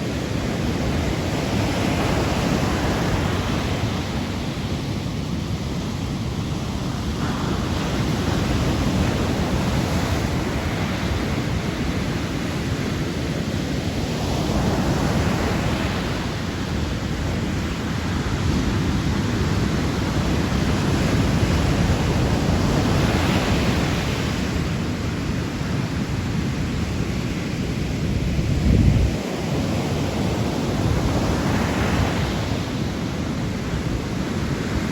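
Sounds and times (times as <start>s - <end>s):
sea waves washing ashore: 0.0s - 34.9s.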